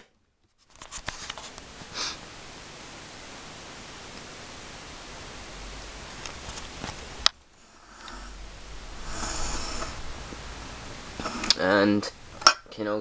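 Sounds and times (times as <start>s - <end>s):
steady hiss: 0.7s - 13.0s.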